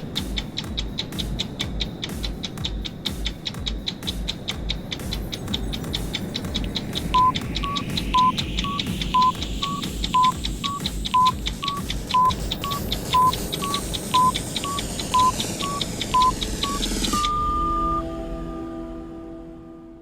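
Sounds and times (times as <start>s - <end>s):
fast clock-like ticks: 0.0s - 17.3s
low pulse: 0.0s - 20.0s
electronic beeps alternating pitch: 0.1s - 19.0s.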